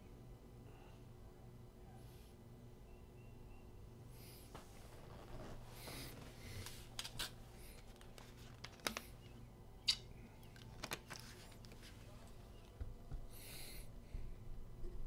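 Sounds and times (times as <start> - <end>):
low outdoor background: 0.0 - 15.0.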